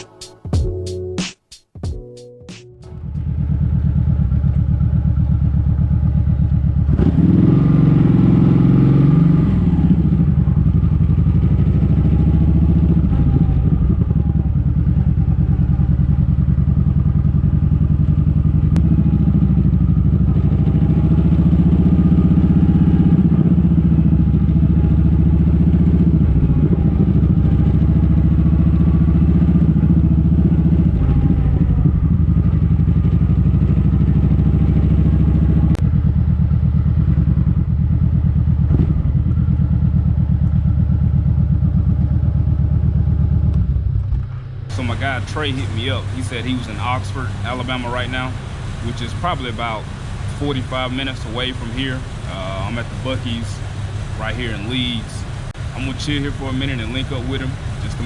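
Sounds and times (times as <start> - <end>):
motorcycle engine running: 2.9 - 58.0.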